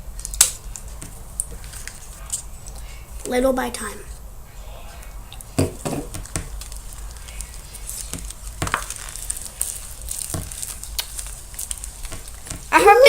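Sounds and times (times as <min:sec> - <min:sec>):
slime squelching and crackling: 0:00.1 - 0:03.1, 0:05.4 - 0:13.0.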